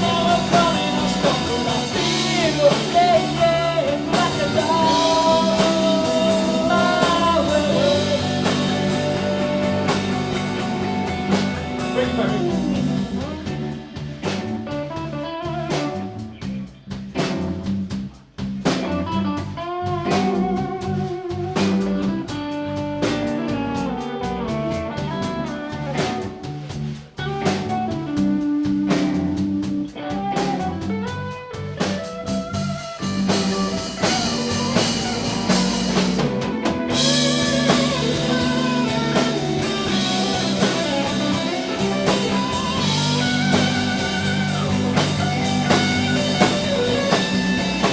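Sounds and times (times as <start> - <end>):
guitar melody: 0.0 - 16.6, 18.7 - 47.9
drum kit: 0.0 - 47.9.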